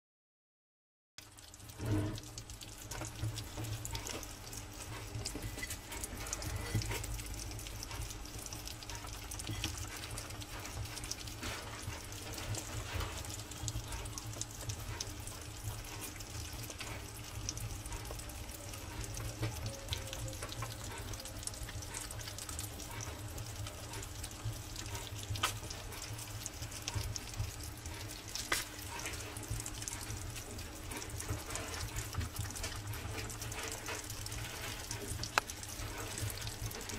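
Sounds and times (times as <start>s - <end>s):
hedgehogs eating wet food: 1.2s - 36.9s.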